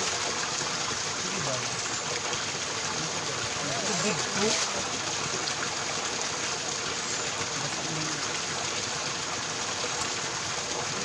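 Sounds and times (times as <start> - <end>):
water gushing onto rocks: 0.0 - 11.0.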